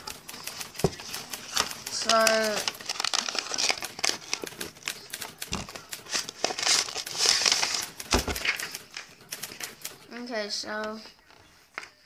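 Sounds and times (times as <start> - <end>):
paper rustling and crinkling: 0.0 - 10.2.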